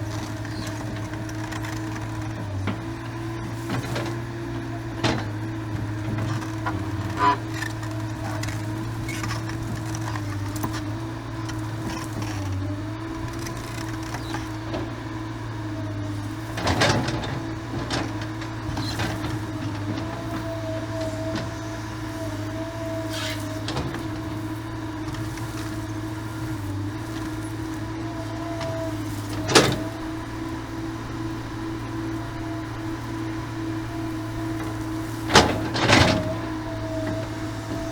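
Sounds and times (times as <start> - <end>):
excavator engine whining: 0.0 - 37.9.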